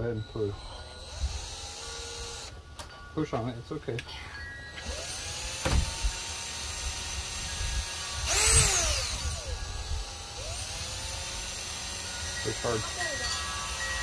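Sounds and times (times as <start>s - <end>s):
cordless drill motor whining: 0.0s - 2.6s, 4.7s - 14.0s.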